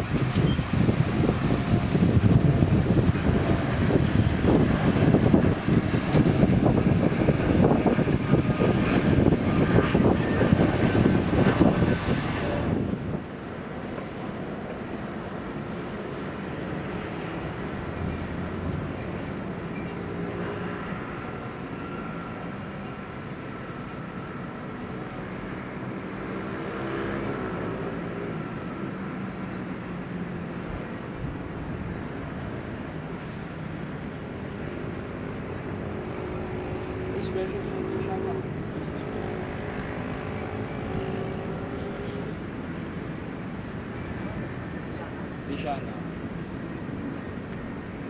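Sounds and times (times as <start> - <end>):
jet engines rumbling with crackle: 0.0 - 48.0.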